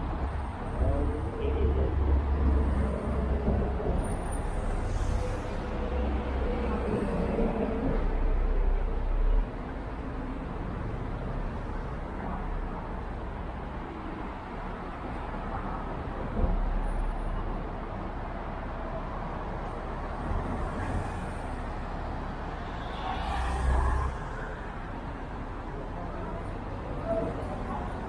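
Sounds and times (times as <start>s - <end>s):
cars passing: 0.0s - 28.0s
city background noise: 0.0s - 28.0s.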